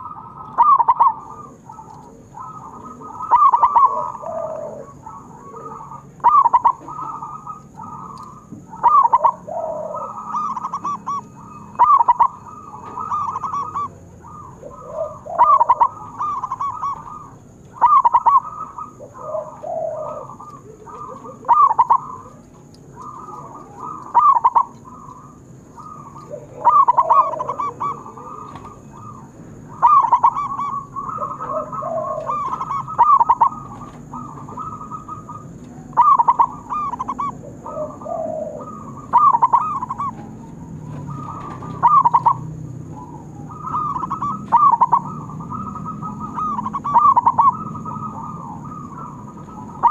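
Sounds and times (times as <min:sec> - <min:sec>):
dove cooing rapid rolling phrase: 0:00.0 - 0:49.9
soft low dove cooing: 0:00.0 - 0:49.9.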